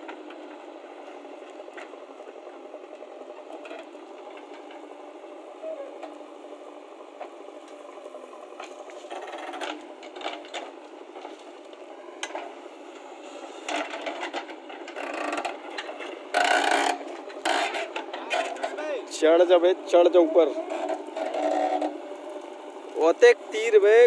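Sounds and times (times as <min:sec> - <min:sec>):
backhoe engine and hydraulics: 0:00.0 - 0:24.0.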